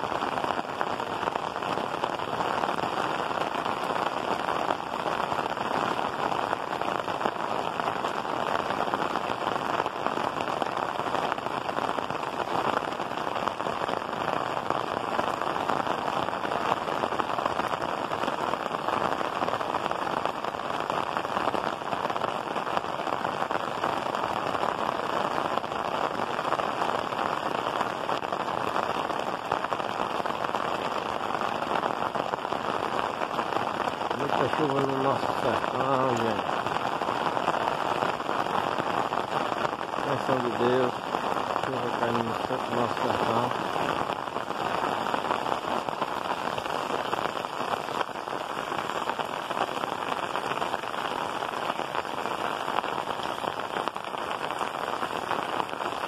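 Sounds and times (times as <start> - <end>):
rain on tiled roofs: 0.0 - 56.0.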